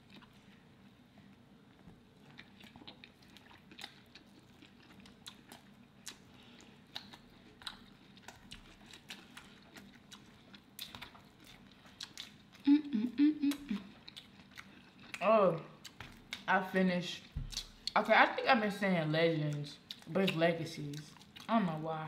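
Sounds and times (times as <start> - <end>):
chewing food: 0.0 - 18.1, 19.4 - 22.0.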